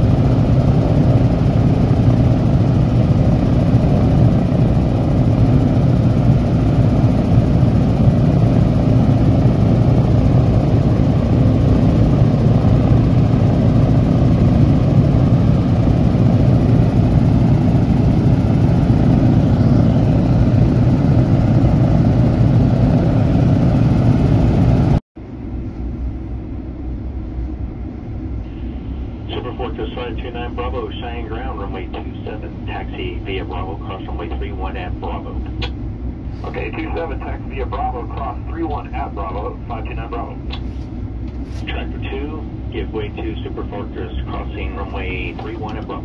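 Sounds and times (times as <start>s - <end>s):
radial aircraft engines running: 0.0s - 46.0s.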